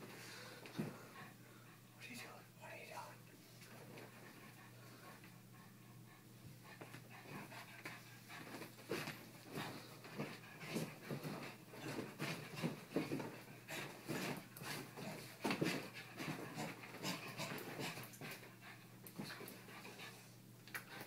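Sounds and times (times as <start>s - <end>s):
puppy panting: 0.7s - 2.1s, 3.7s - 21.0s.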